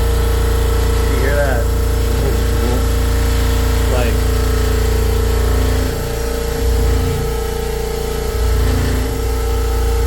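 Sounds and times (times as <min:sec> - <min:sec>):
air compressor motor hum: 0:00.0 - 0:10.0.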